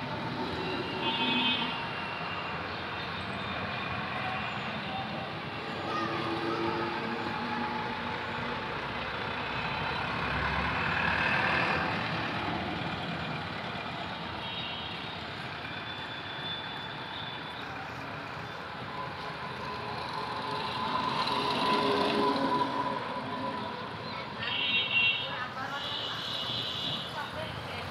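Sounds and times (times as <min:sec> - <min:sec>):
road traffic: 0:00.0 - 0:27.9.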